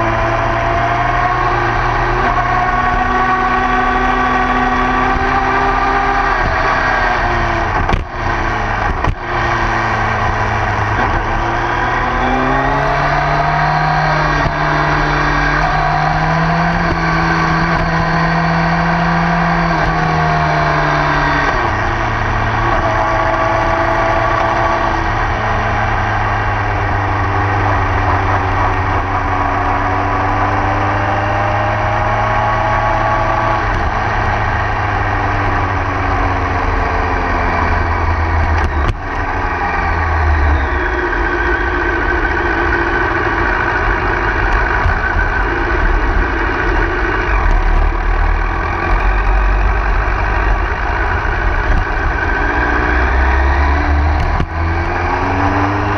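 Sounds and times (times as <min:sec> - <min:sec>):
motorcycle engine running hard: 0:00.0 - 0:55.9.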